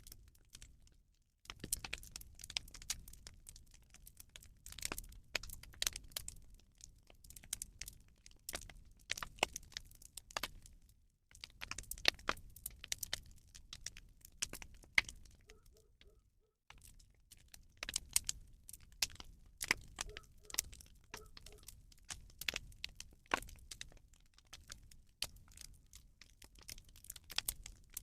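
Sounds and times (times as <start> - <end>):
fire crackling with sharp pops: 1.5 - 16.0, 16.7 - 28.0.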